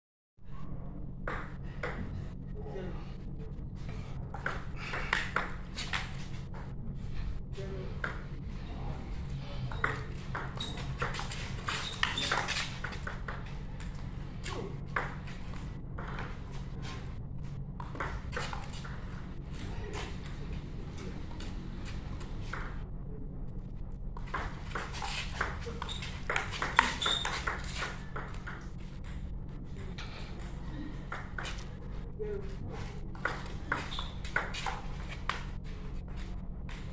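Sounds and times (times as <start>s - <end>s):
steady low hum: 0.4s - 36.9s.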